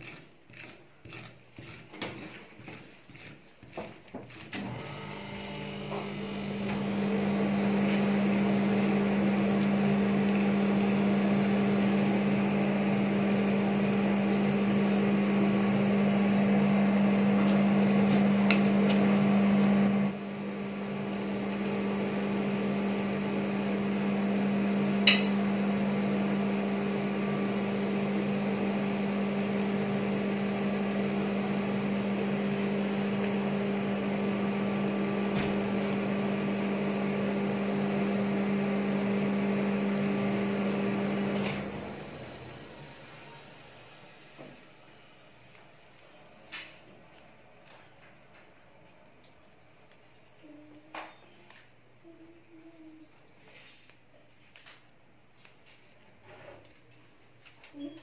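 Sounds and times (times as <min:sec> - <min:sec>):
refrigeration unit hum: 0:00.0 - 0:58.0.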